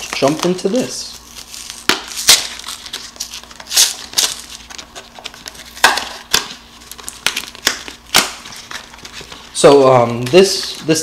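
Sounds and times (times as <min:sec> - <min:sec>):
cardboard packaging crinkling: 0:00.0 - 0:11.0.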